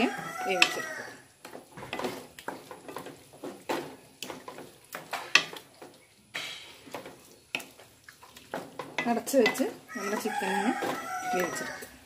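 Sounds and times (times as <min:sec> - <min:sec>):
wooden spatula scraping pan: 0:00.0 - 0:12.0.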